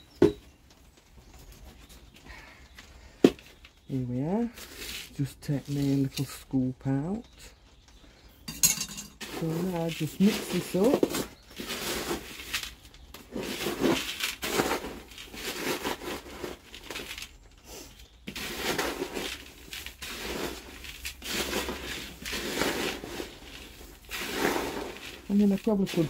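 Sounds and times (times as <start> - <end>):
soil granules rustling in bucket: 0.0 - 8.4, 9.1 - 26.0.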